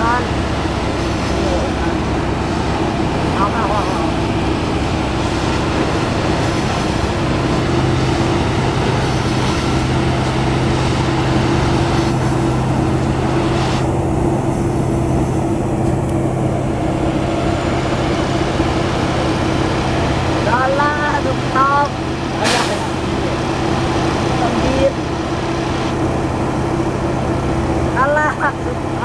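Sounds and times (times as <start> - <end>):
loud steady machine drone: 0.0 - 29.0.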